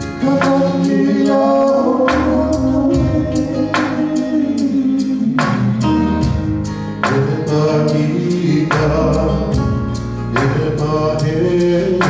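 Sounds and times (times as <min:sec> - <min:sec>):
live band music with singing: 0:00.0 - 0:12.0.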